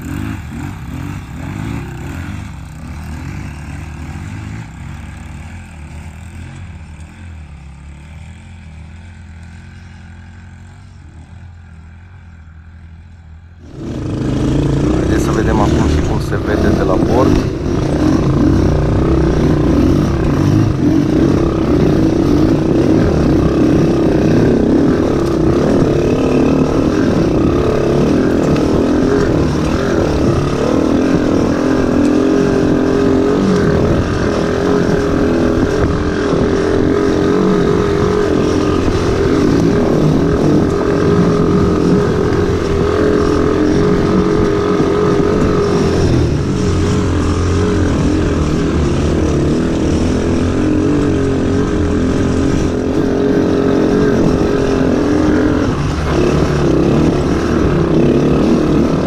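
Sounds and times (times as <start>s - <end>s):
atv engines running: 0.0s - 59.0s.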